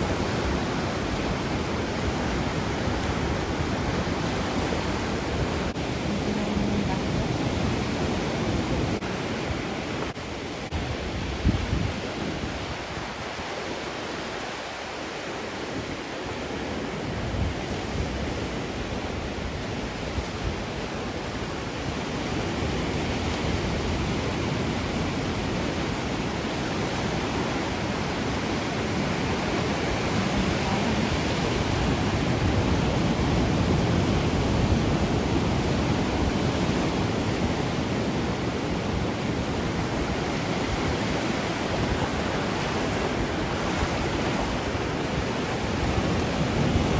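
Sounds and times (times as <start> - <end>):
ocean waves washing on shore: 0.0 - 46.9.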